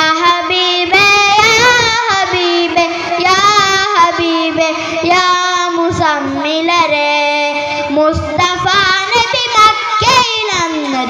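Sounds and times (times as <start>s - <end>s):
boy singing through loudspeaker: 0.0s - 11.0s.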